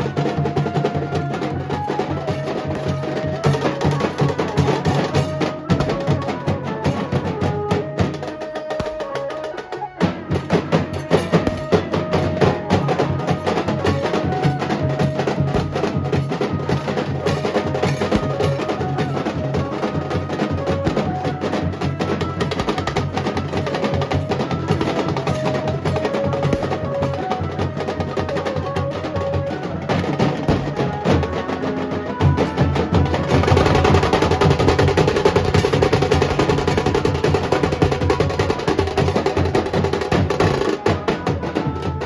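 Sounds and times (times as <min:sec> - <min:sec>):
fast drumming: 0:00.0 - 0:42.0
held melody line: 0:00.0 - 0:42.0.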